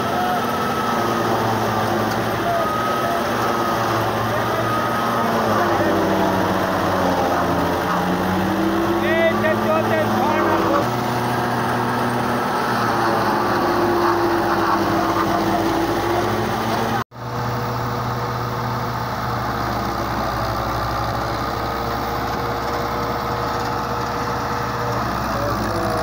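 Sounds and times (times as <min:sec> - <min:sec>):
forage chopper cutting: 0:00.0 - 0:26.0
tractor diesel engine under load: 0:00.0 - 0:26.0.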